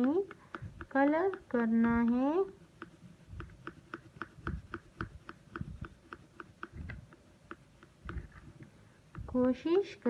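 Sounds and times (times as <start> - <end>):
colouring strokes scratching paper: 0.0 - 10.0.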